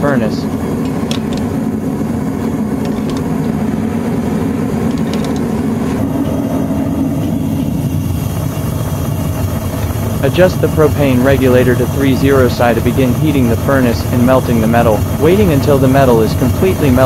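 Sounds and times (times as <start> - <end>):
propane burner rushing: 0.0 - 17.0.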